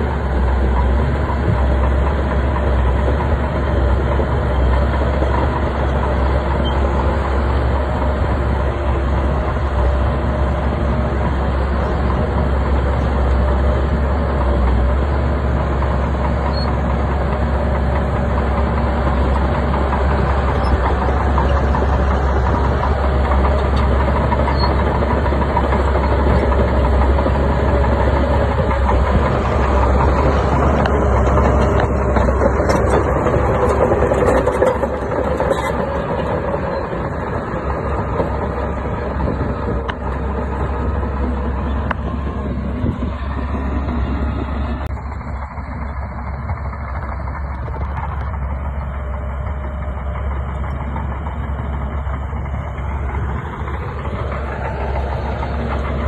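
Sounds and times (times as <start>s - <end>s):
bulldozer diesel engine under load: 0.0s - 56.0s
bulldozer pushing rock and dirt: 0.0s - 56.0s.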